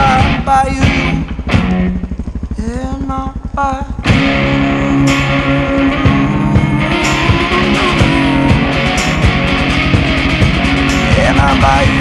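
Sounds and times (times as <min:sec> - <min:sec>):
rock music with electric guitar: 0:00.0 - 0:02.1, 0:04.0 - 0:12.0.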